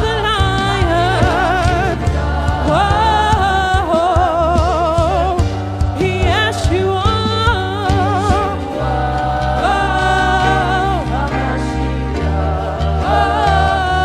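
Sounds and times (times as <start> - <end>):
gospel singing with vibrato: 0.0 - 14.0
steady bass accompaniment: 0.0 - 14.0.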